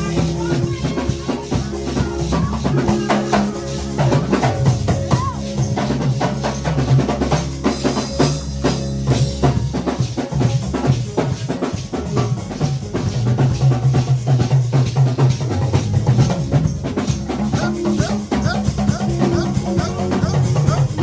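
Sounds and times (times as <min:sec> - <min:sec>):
drum kit beat: 0:00.0 - 0:21.0
live band music: 0:00.0 - 0:21.0
low bass line: 0:00.0 - 0:21.0.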